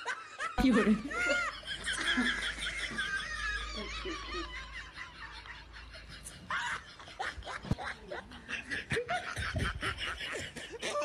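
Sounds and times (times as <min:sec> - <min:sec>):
snickering laughter: 0:00.0 - 0:11.0.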